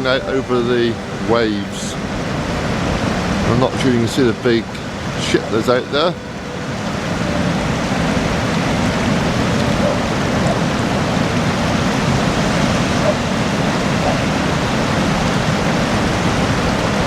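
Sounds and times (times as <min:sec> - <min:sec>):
sea waves breaking on beach: 0:00.0 - 0:17.0.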